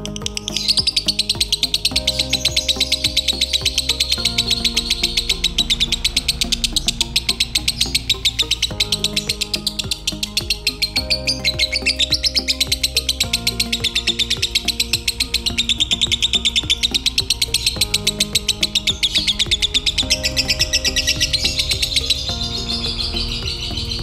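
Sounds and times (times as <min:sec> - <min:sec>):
background music with sustained chords: 0:00.0 - 0:24.0.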